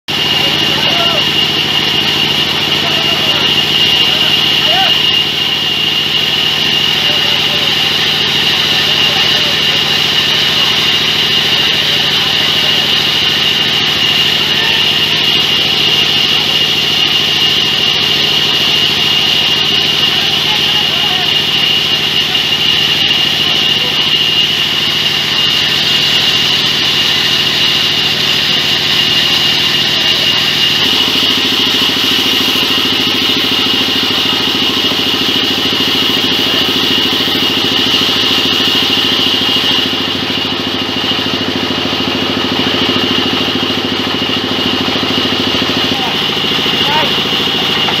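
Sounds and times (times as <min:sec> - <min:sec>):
band saw high whine: 0:00.1 - 0:48.0
engine drone: 0:00.1 - 0:48.0.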